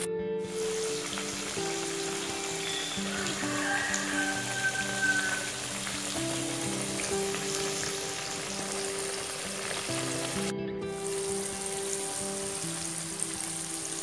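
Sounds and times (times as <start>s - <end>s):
soft background music: 0.0s - 14.0s
food deep-frying in oil: 0.5s - 14.0s.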